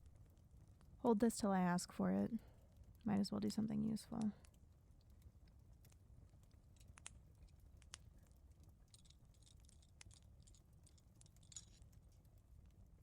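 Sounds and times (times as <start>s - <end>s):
fireplace crackling: 0.0s - 13.0s
low rumble of fire: 0.0s - 13.0s.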